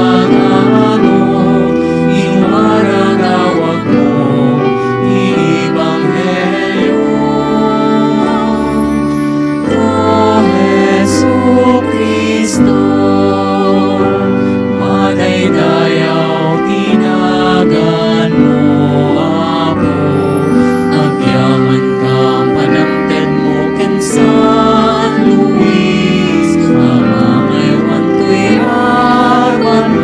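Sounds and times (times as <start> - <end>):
held accompaniment chords: 0.0 - 30.0
slow hymn singing: 0.0 - 30.0.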